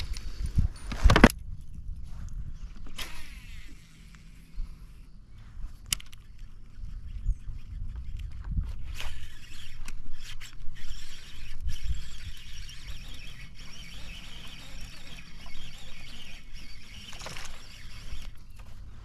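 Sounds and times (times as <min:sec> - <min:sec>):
spool spinning out line: 0:00.0 - 0:19.0
wind rumble on microphone: 0:00.0 - 0:19.0
fishing reel gears whirring: 0:02.7 - 0:19.0.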